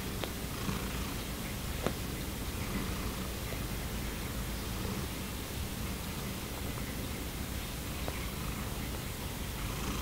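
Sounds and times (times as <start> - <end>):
cat purring: 0.0 - 7.0, 7.8 - 10.0.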